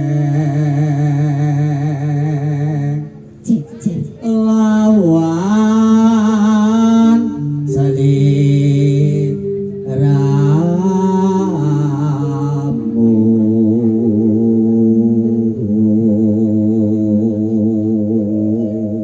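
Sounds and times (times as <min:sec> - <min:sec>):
held instrumental chords: 0:00.0 - 0:19.0
person singing long wavering notes: 0:00.0 - 0:19.0.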